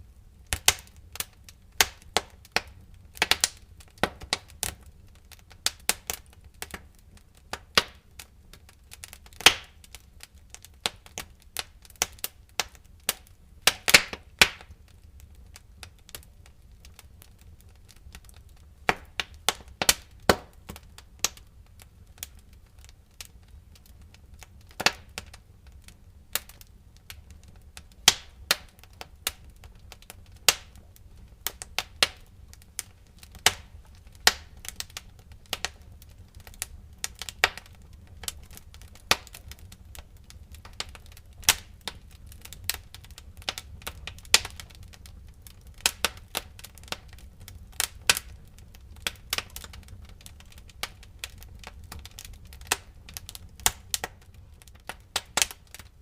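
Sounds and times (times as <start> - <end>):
low steady fire rumble: 0.0 - 56.0
wood fire crackling and popping: 0.0 - 56.0.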